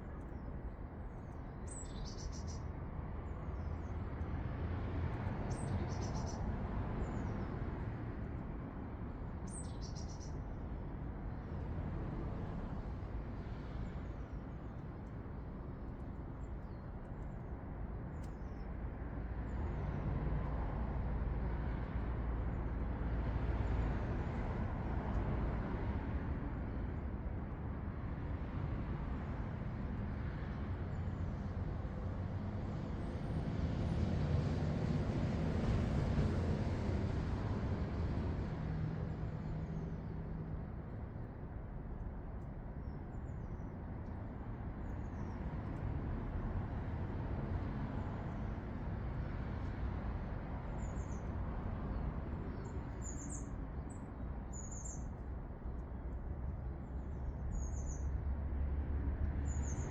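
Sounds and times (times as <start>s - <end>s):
distant road traffic rumble: 11.0s - 59.9s.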